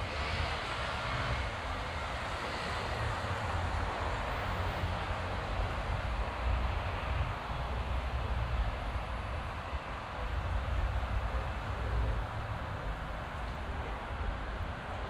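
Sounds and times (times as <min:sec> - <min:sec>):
low traffic rumble: 0:00.0 - 0:15.0
passing vehicles hiss: 0:00.0 - 0:15.0.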